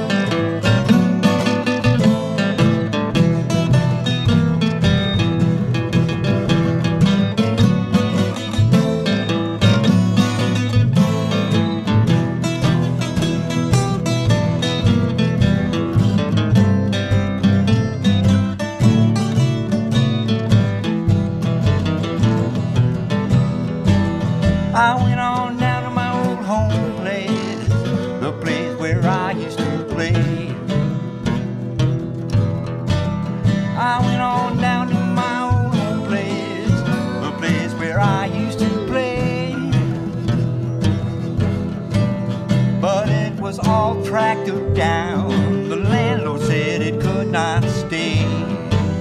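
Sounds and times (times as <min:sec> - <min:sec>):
acoustic blues instrumental: 0:00.0 - 0:49.0
bending lead melody: 0:00.0 - 0:49.0
rhythm guitar: 0:00.0 - 0:49.0.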